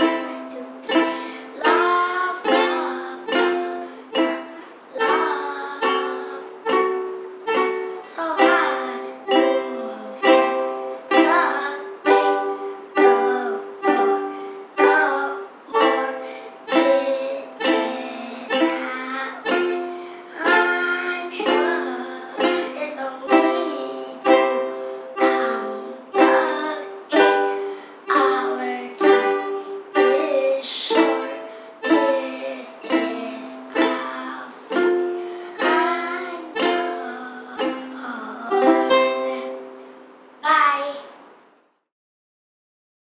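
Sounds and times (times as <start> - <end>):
ukulele strumming: 0.0 - 40.3.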